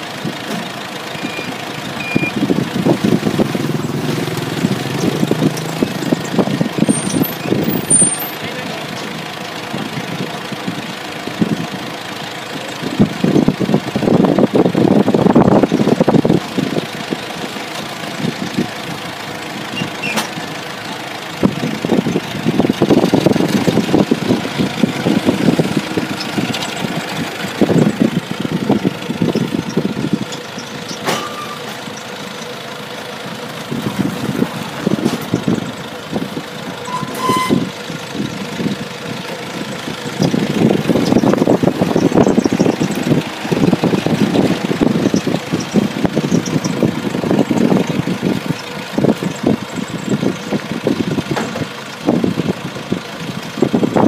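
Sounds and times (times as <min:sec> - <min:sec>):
forklift engine idling and revving: 0:00.0 - 0:54.0.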